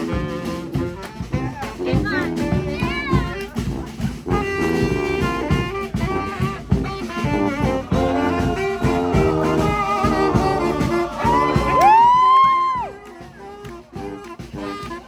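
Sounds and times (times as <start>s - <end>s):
steady drum beat: 0.0s - 15.0s
street band horns playing chords: 0.0s - 15.0s.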